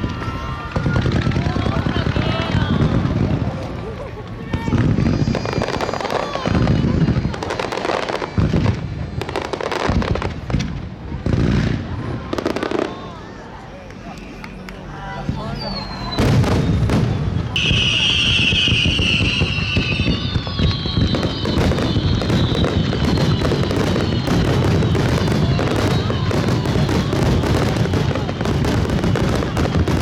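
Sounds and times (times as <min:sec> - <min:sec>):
fireworks bursts and crackling: 0:00.0 - 0:30.0
whistling firework shells: 0:04.7 - 0:10.7, 0:11.9 - 0:30.0.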